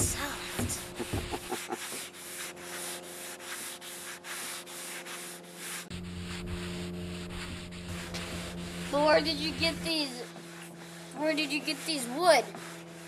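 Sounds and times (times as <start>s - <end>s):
steady low hum: 0.0s - 4.2s, 5.2s - 13.0s
sanding block on wood: 0.0s - 13.0s.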